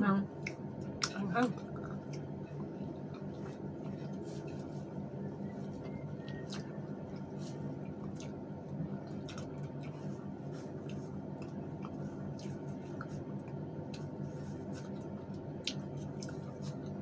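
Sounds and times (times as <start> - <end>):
steady low hum: 0.0 - 17.0
wet chewing and lip smacks: 0.3 - 17.0.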